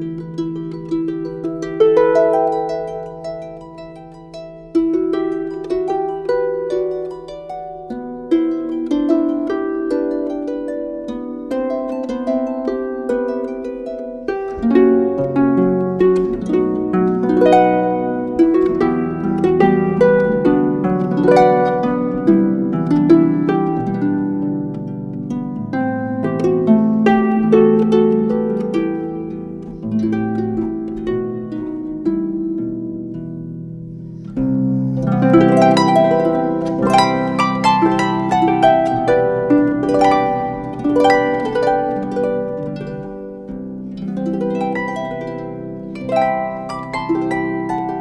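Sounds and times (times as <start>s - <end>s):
harp music: 0.0s - 48.0s.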